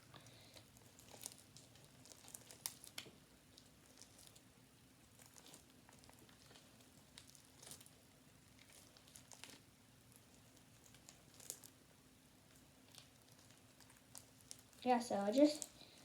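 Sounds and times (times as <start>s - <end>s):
slime clicking and crackling: 0.5s - 15.8s.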